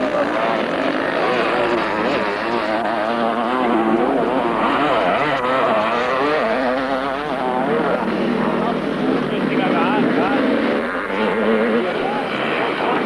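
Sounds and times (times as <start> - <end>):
motocross motorcycles revving: 0.0 - 13.0.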